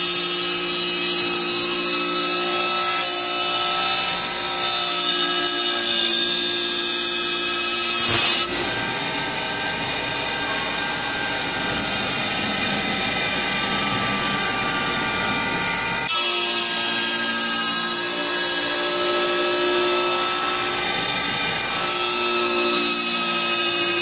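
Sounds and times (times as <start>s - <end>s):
wood lathe cutter whining: 0.0s - 24.0s.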